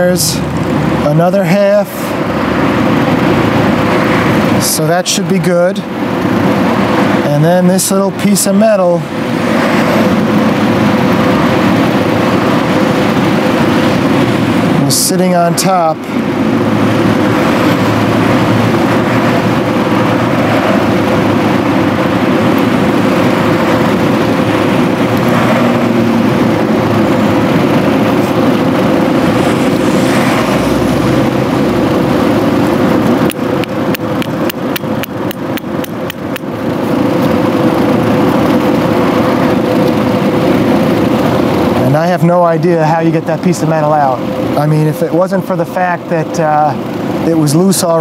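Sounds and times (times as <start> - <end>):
steady mechanical drone: 0.0 - 48.0.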